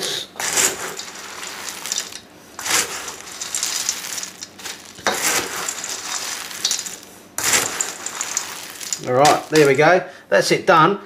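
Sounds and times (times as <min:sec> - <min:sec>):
cereal stirred with a spoon: 0:00.3 - 0:09.9.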